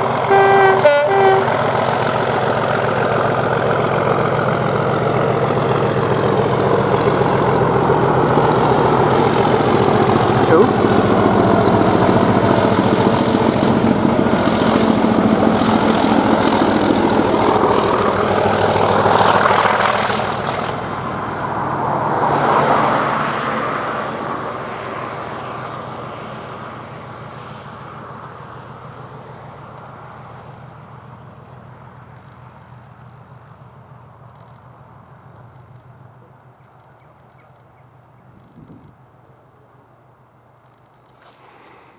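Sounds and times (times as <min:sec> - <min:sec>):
diesel locomotive engine growling: 0:00.0 - 0:41.9.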